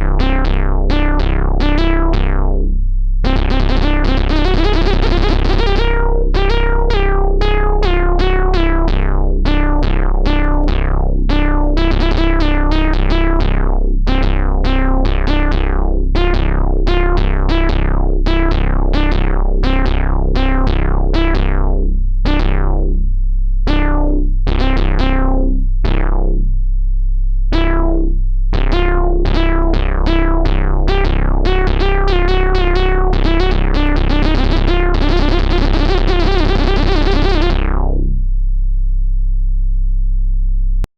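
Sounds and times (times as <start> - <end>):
instrumental music: 0.0 - 23.0, 23.7 - 26.6, 27.5 - 38.2.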